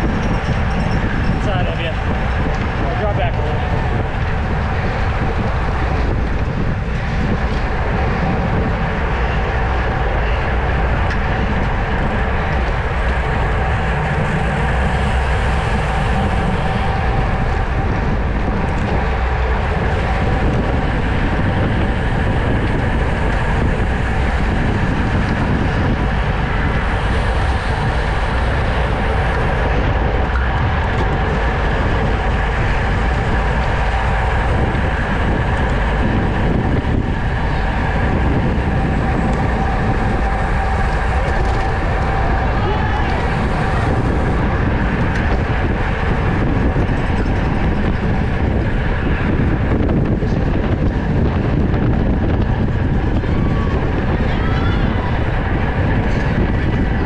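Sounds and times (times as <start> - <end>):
bicycle whir: 0.0 - 57.0
wind and tyre noise: 0.0 - 57.0.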